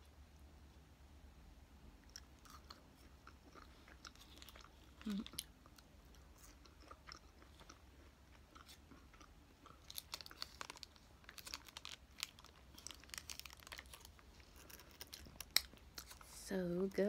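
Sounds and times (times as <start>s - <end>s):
close-up chewing sounds: 1.9s - 16.4s.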